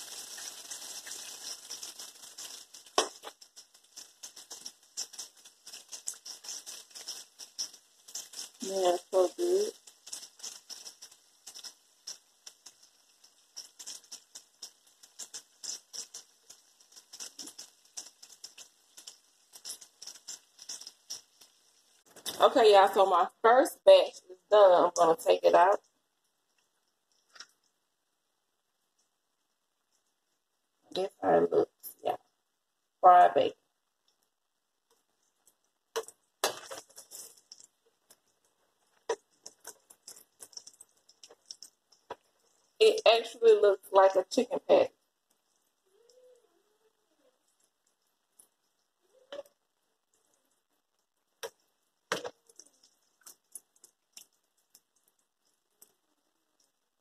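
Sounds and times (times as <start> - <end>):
bacon frying in oil: 0.0 - 57.0.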